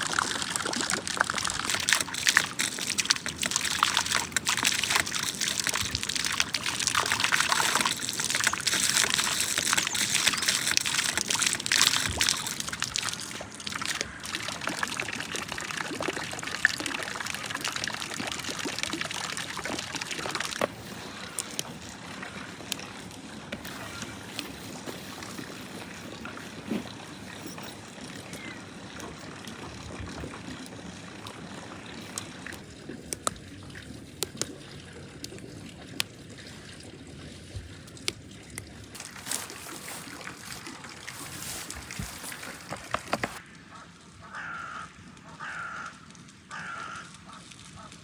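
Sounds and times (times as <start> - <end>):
water running and sloshing: 0.0 - 43.4.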